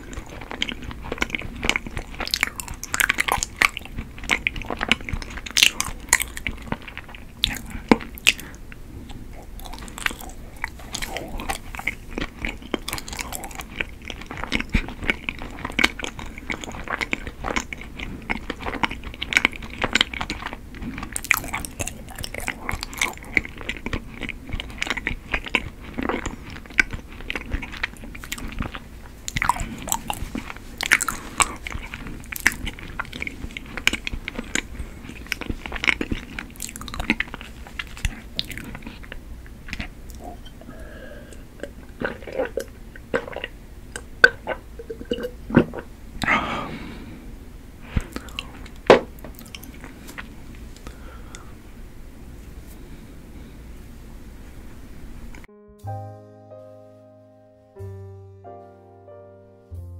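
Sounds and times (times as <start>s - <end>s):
close chewing with mouth smacks: 0.0s - 46.3s, 47.9s - 51.5s.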